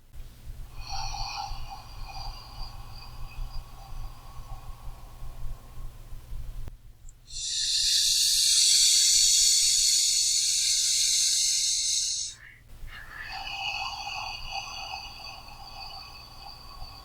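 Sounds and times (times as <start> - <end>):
deep breathing: 0.7 - 6.3, 7.3 - 17.0.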